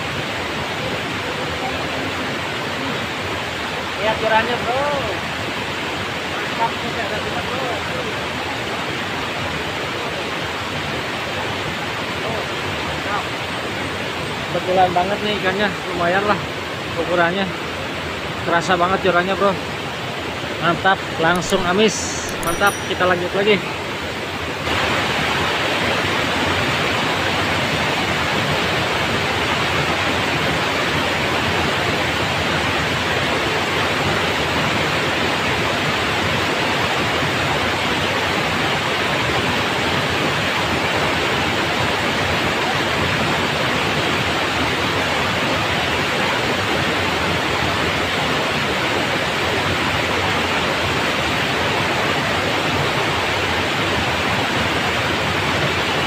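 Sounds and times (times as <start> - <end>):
water rushing over a weir: 0.0 - 56.0.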